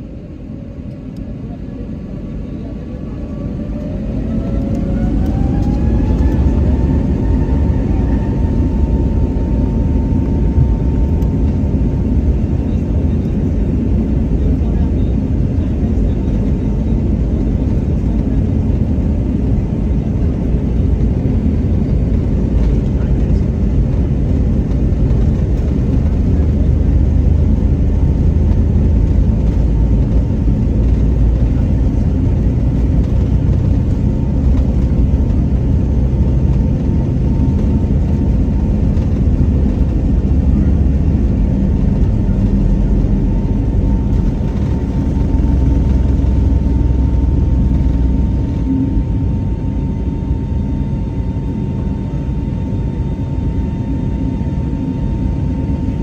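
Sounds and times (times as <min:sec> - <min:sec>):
airliner engines low rumble: 0:00.0 - 0:56.0
faint engine whine: 0:00.0 - 0:56.0.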